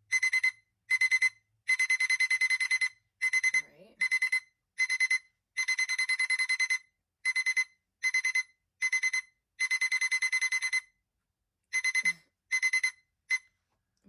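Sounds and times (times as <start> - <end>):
phone alarm beeping: 0.0 - 11.0, 11.7 - 13.6.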